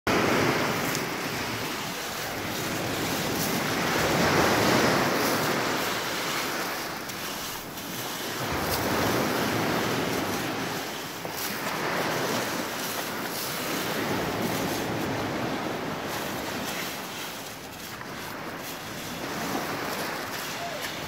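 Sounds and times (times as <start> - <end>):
surf on pebble beach: 0.1 - 21.0
wind noise on microphone: 0.1 - 21.0.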